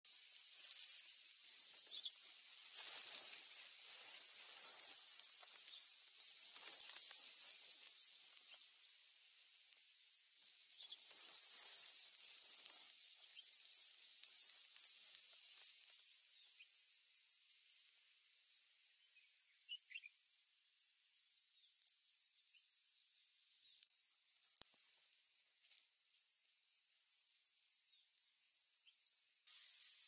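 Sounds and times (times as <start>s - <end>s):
steady high-pitched hiss: 0.1s - 30.0s.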